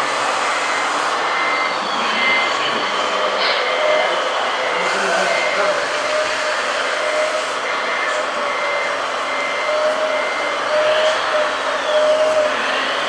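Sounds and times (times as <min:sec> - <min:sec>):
whine of small electric motors: 0:00.0 - 0:13.0.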